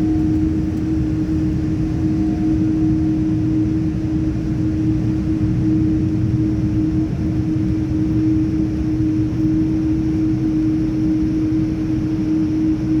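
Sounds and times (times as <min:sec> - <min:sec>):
aircraft cabin rumble: 0:00.0 - 0:12.0
constant hum: 0:00.0 - 0:13.0.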